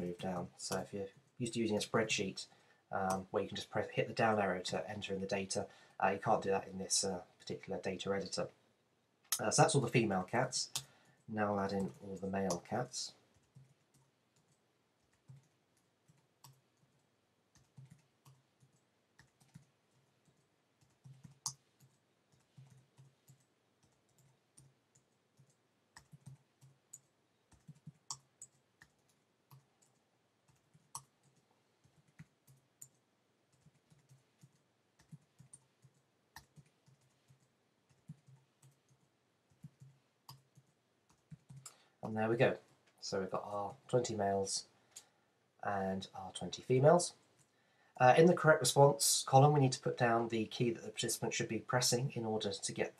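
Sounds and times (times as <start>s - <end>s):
faint keyboard typing: 0.0s - 8.6s, 9.2s - 45.2s, 46.0s - 48.5s.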